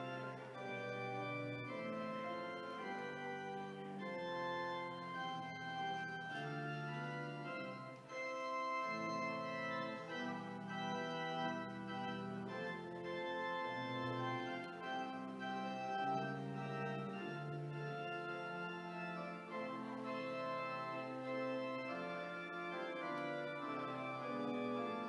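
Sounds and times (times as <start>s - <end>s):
organ chords: 0.0s - 25.0s.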